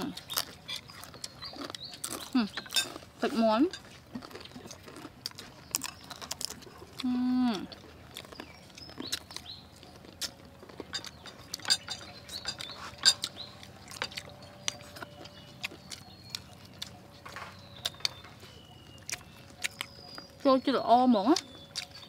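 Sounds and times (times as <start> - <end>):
chewing and lip smacking: 0.0 - 22.0.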